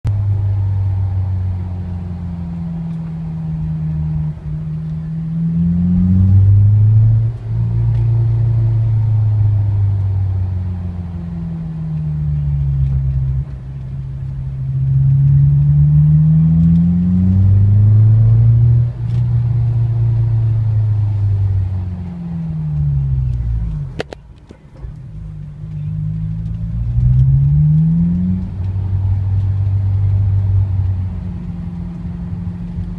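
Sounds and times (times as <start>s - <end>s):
car engine rising and falling: 0.0s - 32.9s.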